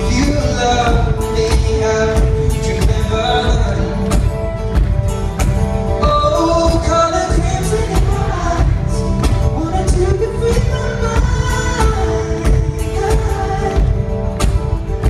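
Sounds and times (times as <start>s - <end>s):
man singing: 0.0s - 4.7s, 5.9s - 14.6s
percussive beat: 0.0s - 15.0s
strummed acoustic guitar: 0.0s - 15.0s.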